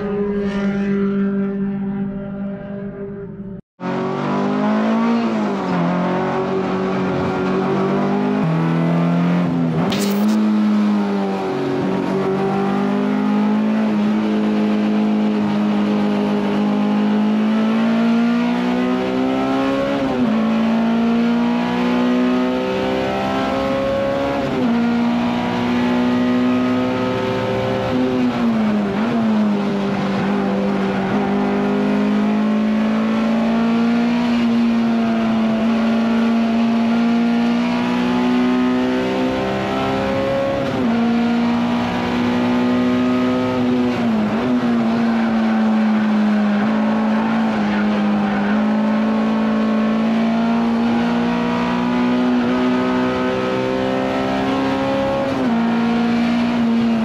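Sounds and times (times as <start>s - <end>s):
race car engine revving through gears: 3.8s - 57.0s.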